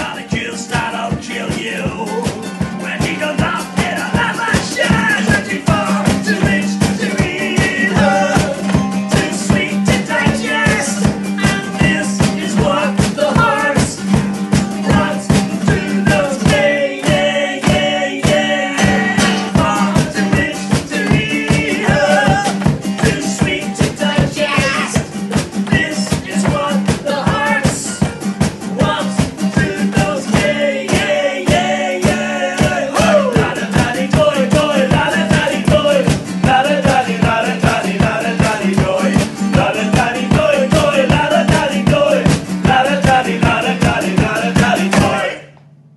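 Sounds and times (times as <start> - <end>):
man singing loudly: 0.0 - 14.0, 14.8 - 28.0, 28.8 - 45.5
acoustic guitar strumming: 0.0 - 45.9
bass guitar: 0.0 - 45.9.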